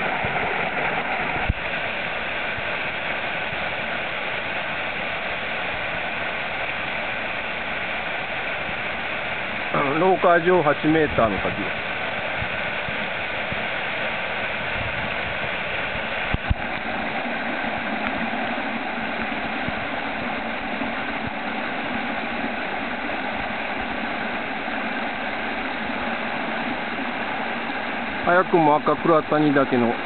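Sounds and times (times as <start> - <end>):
waterfall pouring over rocks: 0.0 - 30.0.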